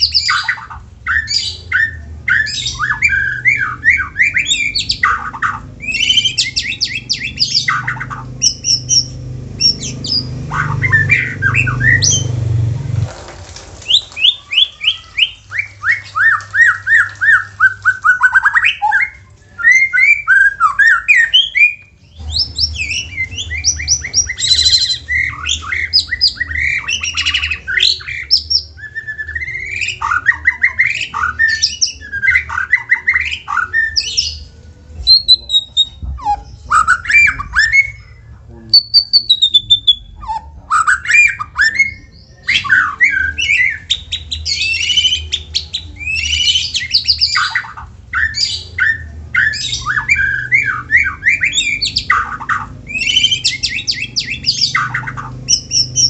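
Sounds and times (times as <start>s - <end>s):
bird singing varied song: 0.0s - 13.1s, 13.8s - 56.0s.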